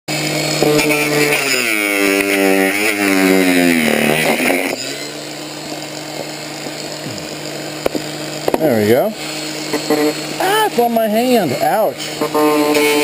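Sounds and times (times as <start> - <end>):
motor running: 0.1 - 13.0.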